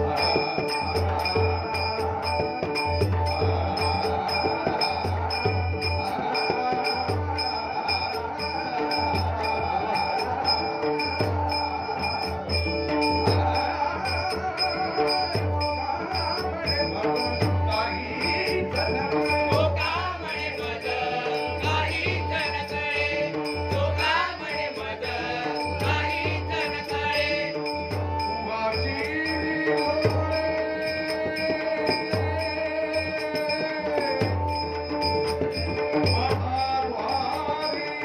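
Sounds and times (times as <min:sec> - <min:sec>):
drum beats: 0:00.0 - 0:38.0
held drone and melody: 0:00.0 - 0:38.0.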